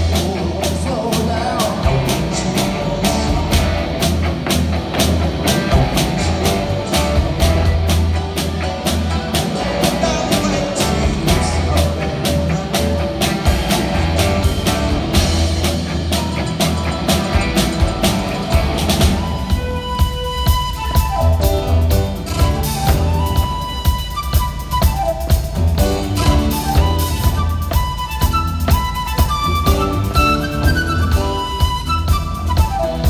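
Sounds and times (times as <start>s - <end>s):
bass guitar: 0.0s - 33.0s
driving drum beat: 0.0s - 33.0s
electric guitar: 0.0s - 33.0s
keyboards: 0.0s - 33.0s.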